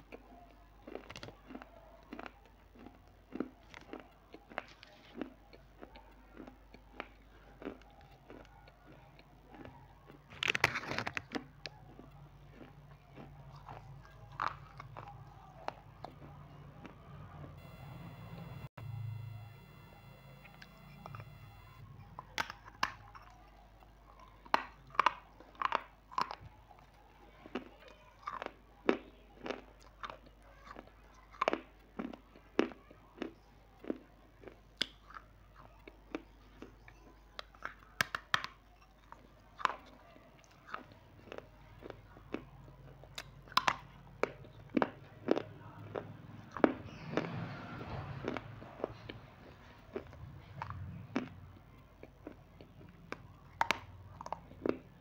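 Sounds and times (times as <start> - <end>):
crunching a crunchy snack: 0.1 - 16.9, 24.2 - 55.0.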